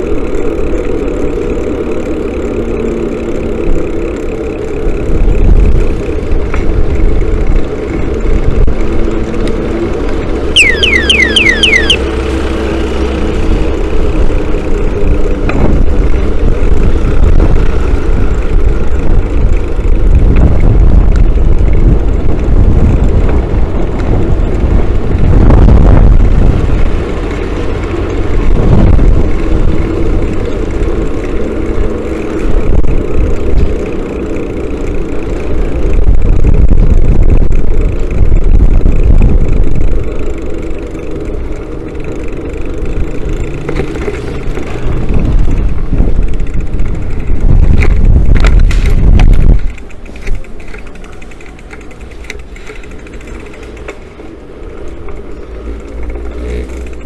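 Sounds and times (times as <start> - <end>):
bicycle tyre noise: 0.0 - 57.0
wind buffeting microphone: 4.5 - 10.7, 12.0 - 57.0.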